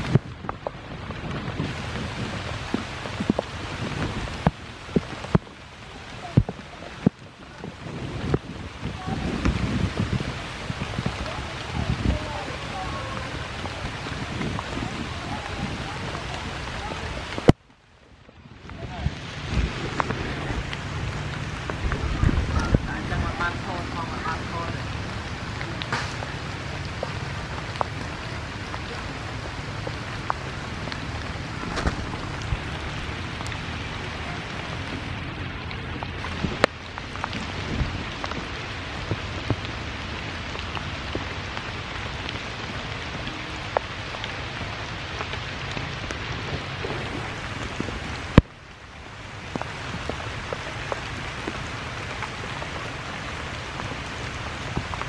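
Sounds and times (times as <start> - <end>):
louder raindrops tapping: 0.0 - 55.0
rain falling on leaves: 0.0 - 55.0.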